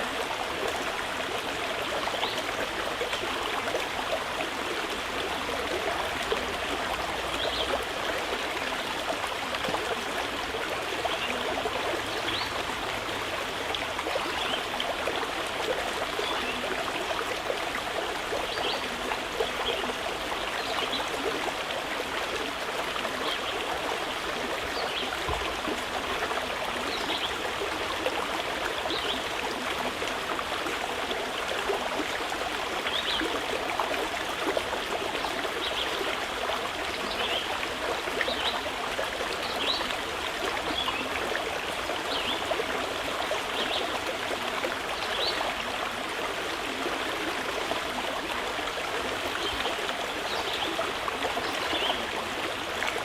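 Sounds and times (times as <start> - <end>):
river flowing over stones: 0.0 - 53.0.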